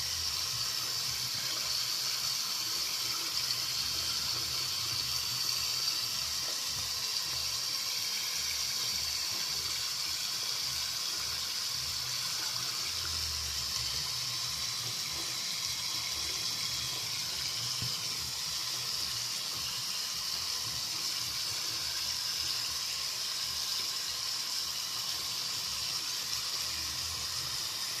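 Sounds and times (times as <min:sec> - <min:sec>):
tap water running into sink: 0:00.0 - 0:28.0.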